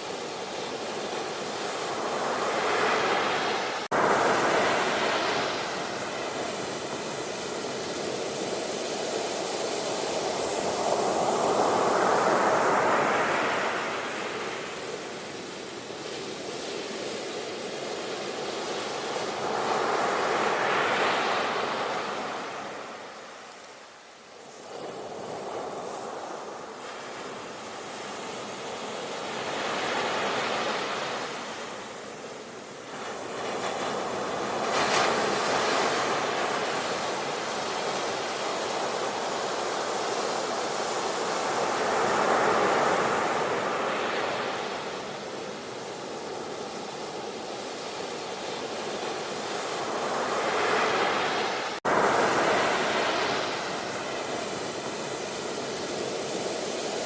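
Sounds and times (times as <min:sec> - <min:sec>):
sea waves breaking: 0:00.2 - 0:15.4, 0:24.5 - 0:57.0.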